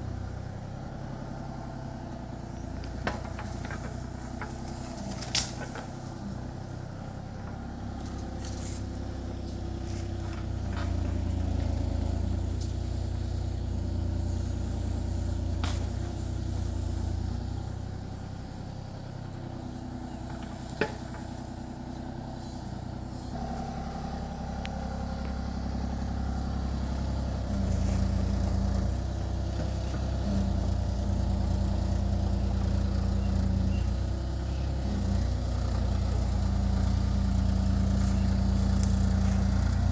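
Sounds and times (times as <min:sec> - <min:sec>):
excavator diesel engine working: 0:00.0 - 0:39.9.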